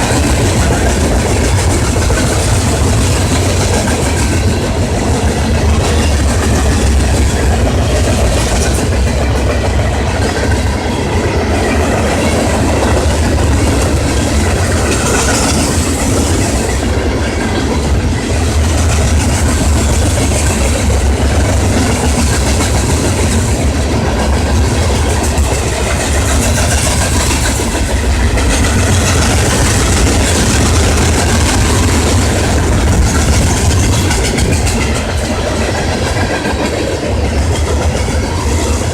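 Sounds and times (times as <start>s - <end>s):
train rolling past: 0.0s - 38.9s.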